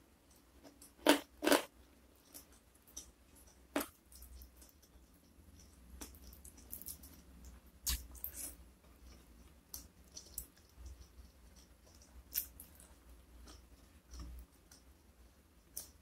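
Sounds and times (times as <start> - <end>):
person chewing food: 0.3 - 15.0.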